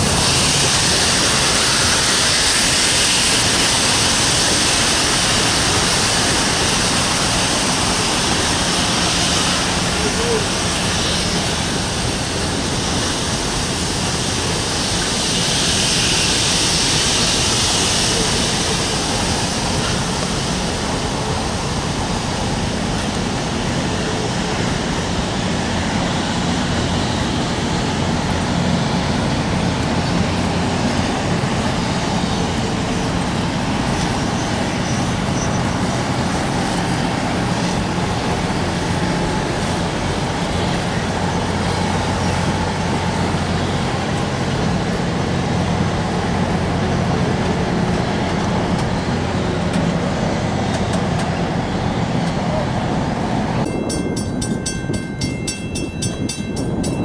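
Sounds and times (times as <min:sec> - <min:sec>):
diesel locomotive engine hum: 0:00.0 - 0:57.0
passenger train rumbling past: 0:00.0 - 0:57.0.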